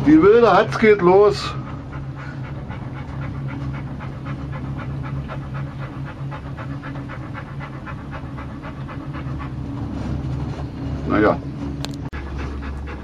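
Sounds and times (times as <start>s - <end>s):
quick panting: 0.0s - 10.6s, 12.0s - 13.0s
gondola low hum: 0.0s - 13.0s.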